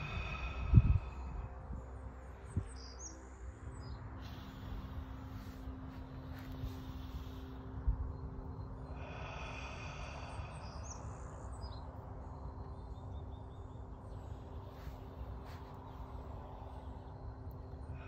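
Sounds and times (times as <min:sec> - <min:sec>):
faint steady hum: 0:00.0 - 0:18.0
steady low rumble: 0:00.0 - 0:18.0.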